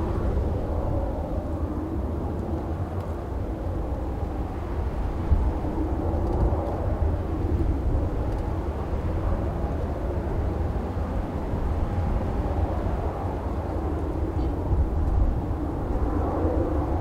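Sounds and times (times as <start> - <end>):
distant jet aircraft: 0.0 - 17.0
gusty wind on microphone: 0.0 - 17.0.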